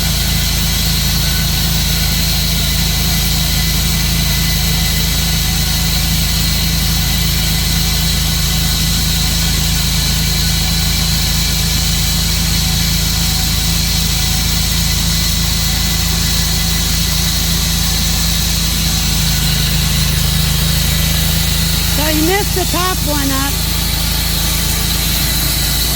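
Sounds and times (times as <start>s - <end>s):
sawmill engine running: 0.0s - 25.9s.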